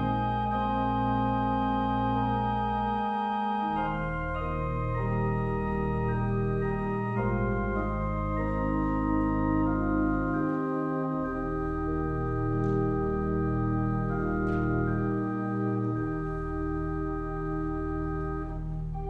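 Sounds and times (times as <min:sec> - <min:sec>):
church organ chords: 0:00.0 - 0:19.0.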